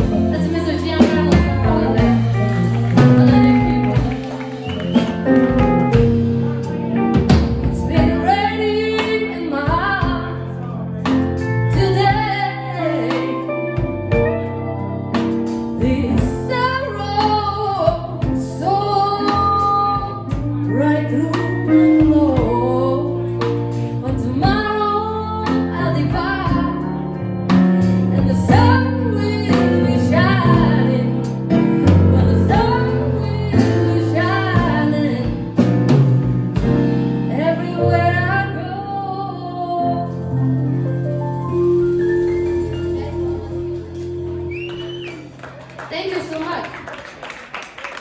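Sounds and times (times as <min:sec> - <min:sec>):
live blues band playing: 0:00.0 - 0:48.0.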